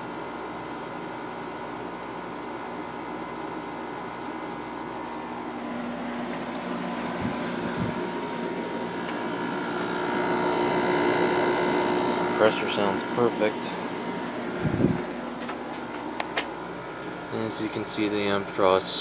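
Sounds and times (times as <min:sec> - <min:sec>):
air conditioner humming: 0:00.0 - 0:19.0
fan air noise: 0:00.0 - 0:19.0.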